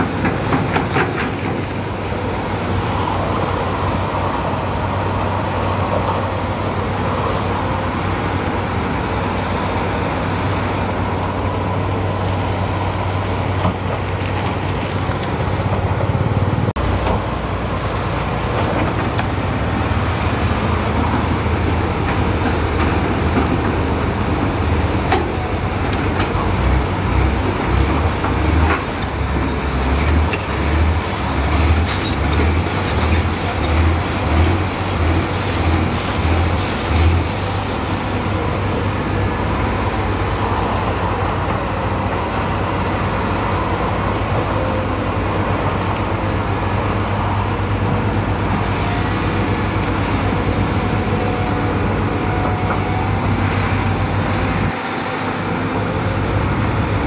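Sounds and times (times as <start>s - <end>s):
heavy diesel engine rumbling: 0.0s - 57.0s.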